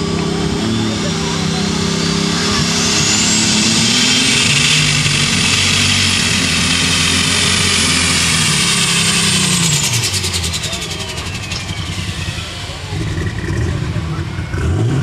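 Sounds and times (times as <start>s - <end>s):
high turbocharger whine: 0.0s - 15.0s
tractor engine at full power: 0.0s - 15.0s.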